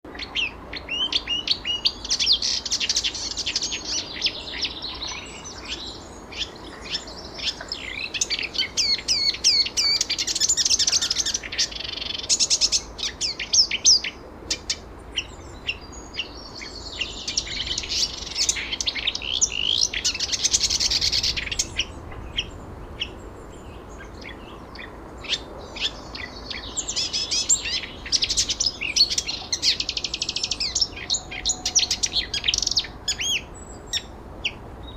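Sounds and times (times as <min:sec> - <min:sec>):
songbirds chirping and singing: 0:00.1 - 0:34.9.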